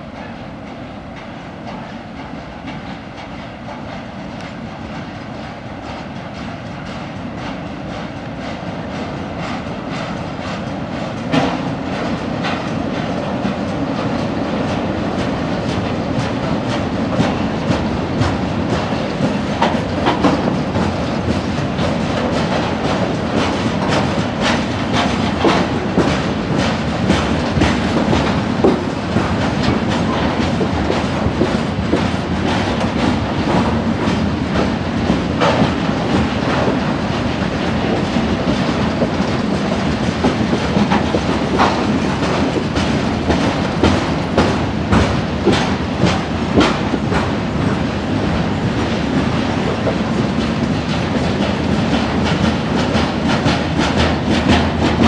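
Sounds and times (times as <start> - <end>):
freight train wheels rumbling: 0.0 - 55.0
wheels clicking over rail joints: 0.1 - 55.0.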